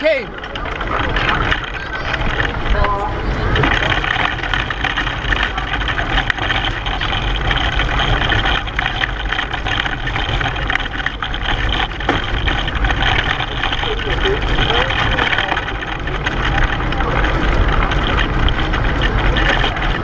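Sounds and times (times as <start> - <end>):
pedal car rumbling and rattling: 0.0 - 20.0.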